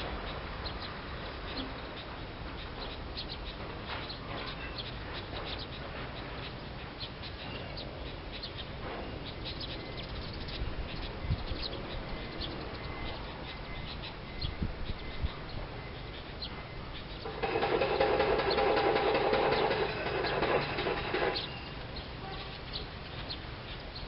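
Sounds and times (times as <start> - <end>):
small songbirds chirping: 0.0 - 24.0.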